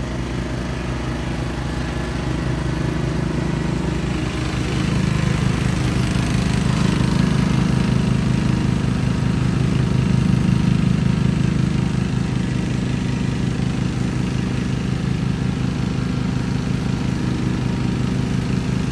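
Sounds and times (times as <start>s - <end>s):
riding mower mowing grass: 0.0s - 18.9s.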